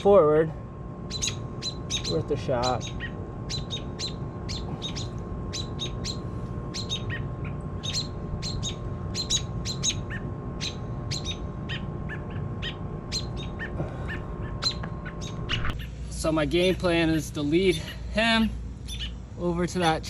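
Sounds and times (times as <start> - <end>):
low steady rumble: 0.0 - 20.0
small birds chirping: 1.0 - 19.7.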